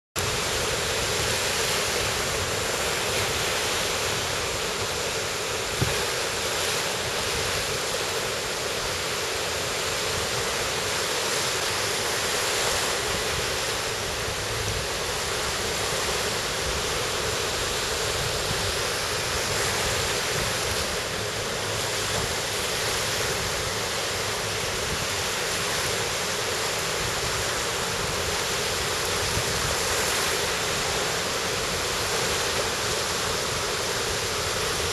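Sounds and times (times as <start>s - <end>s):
sea surf washing onto beach: 0.2s - 34.9s.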